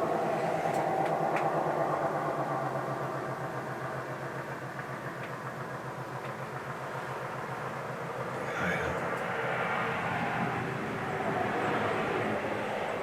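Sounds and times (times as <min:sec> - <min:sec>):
engine running with pulsing hum: 0:00.0 - 0:13.0.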